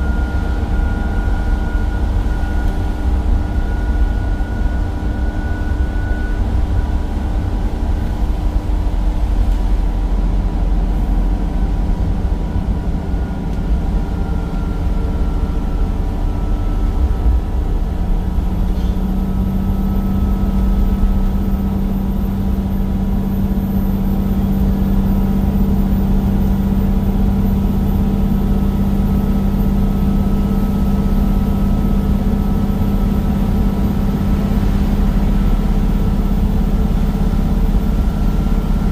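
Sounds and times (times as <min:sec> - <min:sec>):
bus diesel engine humming: 0:00.0 - 0:38.9
low steady note: 0:00.0 - 0:38.9.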